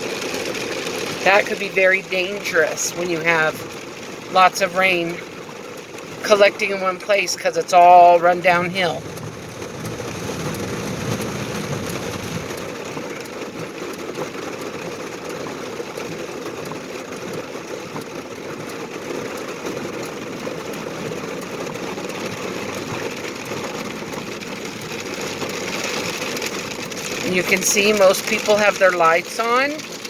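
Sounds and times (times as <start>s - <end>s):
car engine hum: 0.0s - 30.0s.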